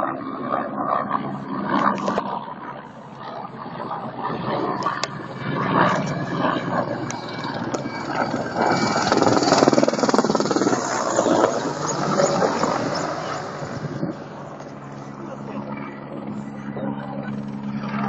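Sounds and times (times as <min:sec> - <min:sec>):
helicopters flying past: 0:00.0 - 0:18.0.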